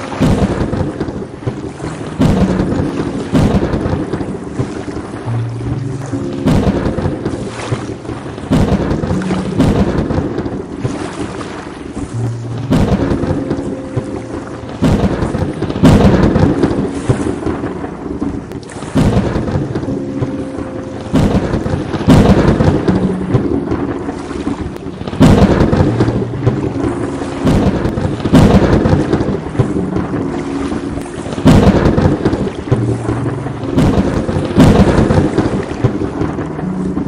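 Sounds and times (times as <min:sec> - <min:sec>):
steady rain: 0:00.0 - 0:37.0
thunderclaps rumbling: 0:00.0 - 0:37.0.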